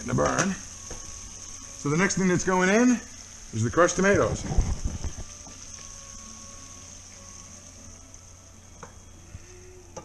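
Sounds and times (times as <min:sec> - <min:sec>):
sauce simmering in a pan: 0:00.0 - 0:10.0
steady hum and hiss: 0:00.0 - 0:10.0.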